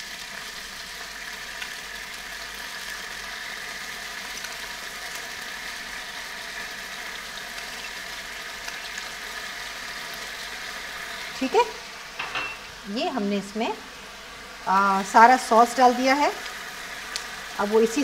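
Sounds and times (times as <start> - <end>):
chicken sizzling in a frying pan: 0.0 - 18.0.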